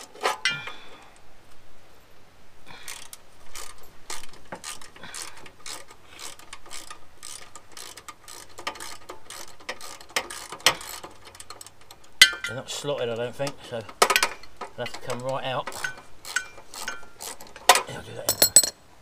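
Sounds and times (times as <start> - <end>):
ratchet spanner clicking: 2.8 - 18.8.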